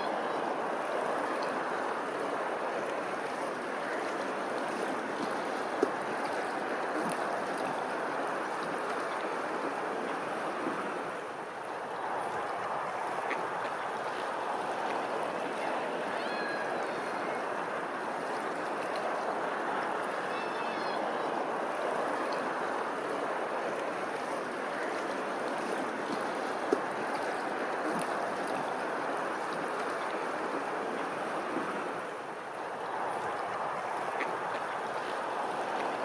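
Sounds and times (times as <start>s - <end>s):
water rushing: 0.0s - 36.0s.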